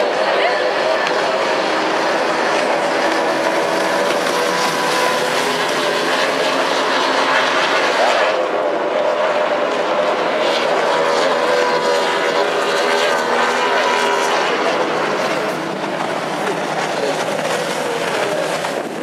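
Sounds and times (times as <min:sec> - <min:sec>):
racing boat engines whining: 0:00.0 - 0:19.0.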